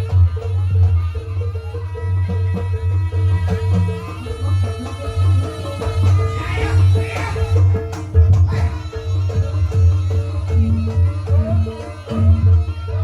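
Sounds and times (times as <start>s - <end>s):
hand drums beating a rhythm: 0.0s - 13.0s.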